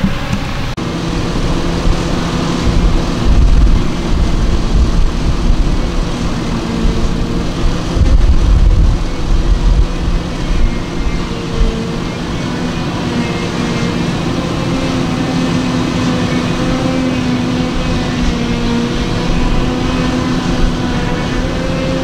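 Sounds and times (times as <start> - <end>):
deep low engine rumbles: 0.0 - 22.0
diesel farm machinery engine drone: 0.0 - 22.0.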